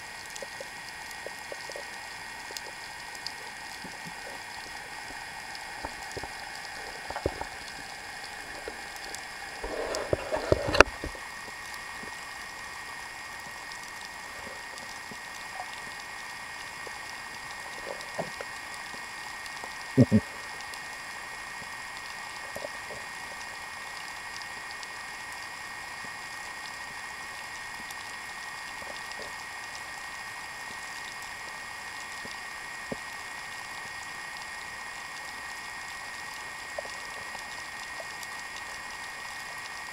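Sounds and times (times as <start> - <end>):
faint crackling clicks: 0.0 - 39.9
underwater hiss: 0.0 - 39.9.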